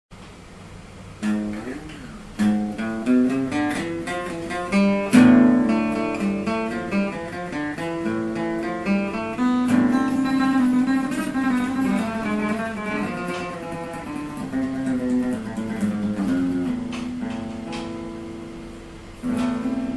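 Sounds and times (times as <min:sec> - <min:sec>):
guitar plucked notes: 0:01.2 - 0:19.9.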